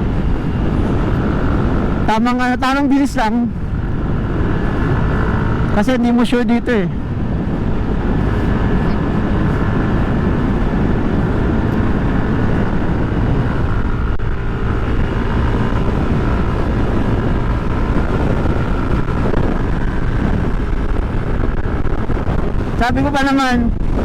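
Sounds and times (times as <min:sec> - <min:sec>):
motorcycle engine cruising: 0:00.0 - 0:24.0
wind on microphone: 0:00.0 - 0:24.0.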